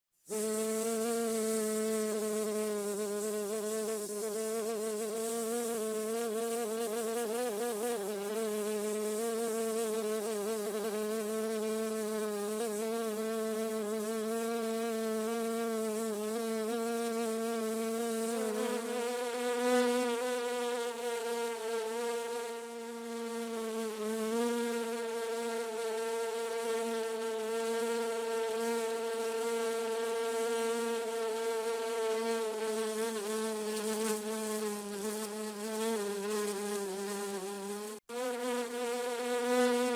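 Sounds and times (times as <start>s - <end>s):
bee buzzing: 0.3s - 39.9s.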